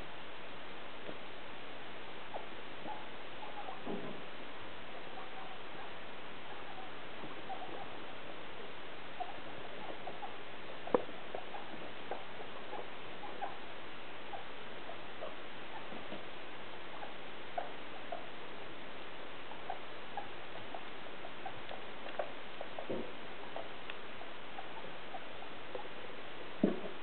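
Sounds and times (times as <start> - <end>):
guinea pigs calling softly: 0.0 - 27.0
steady hiss: 0.0 - 27.0.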